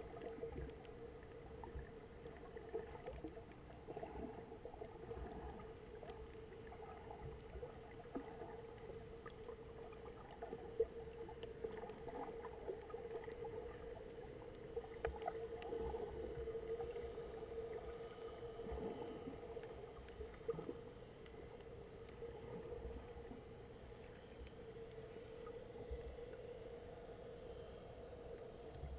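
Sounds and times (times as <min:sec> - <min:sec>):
faint underwater hum: 0:00.0 - 0:28.9.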